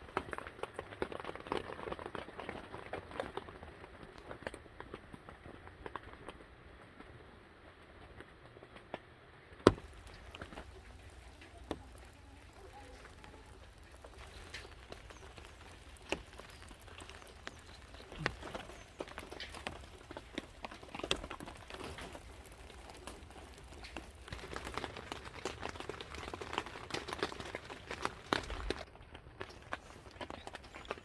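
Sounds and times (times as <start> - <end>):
faint steady background noise: 0.0 - 31.0.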